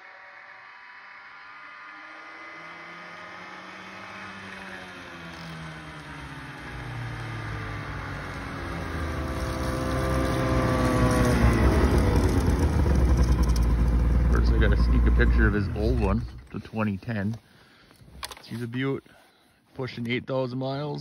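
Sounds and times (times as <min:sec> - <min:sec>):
snowmobile engine approaching: 0:00.0 - 0:19.3.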